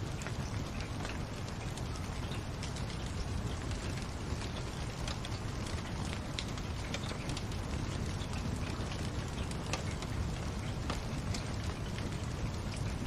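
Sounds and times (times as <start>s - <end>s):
fire crackling and popping: 0.0s - 13.0s
fire rumbling and hissing: 0.0s - 13.0s.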